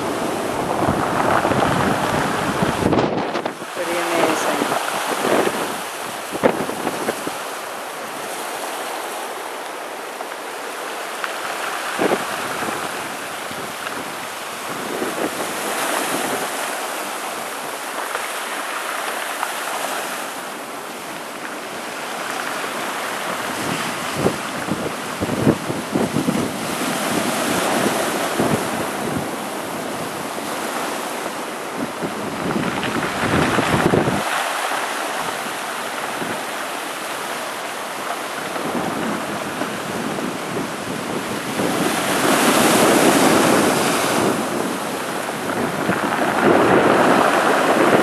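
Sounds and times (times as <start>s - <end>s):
wind buffeting microphone: 0.0s - 9.5s, 10.1s - 19.2s, 21.1s - 48.0s
surf washing over rocks: 0.0s - 48.0s.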